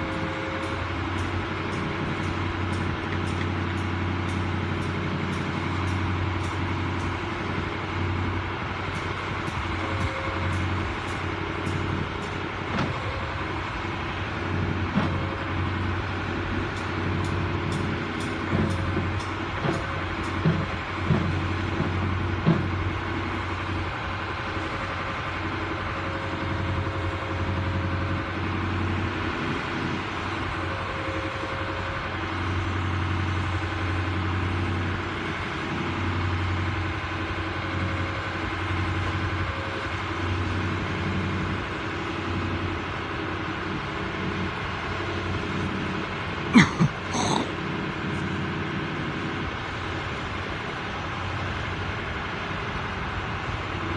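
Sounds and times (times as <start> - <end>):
boat engine humming: 0.0 - 53.9.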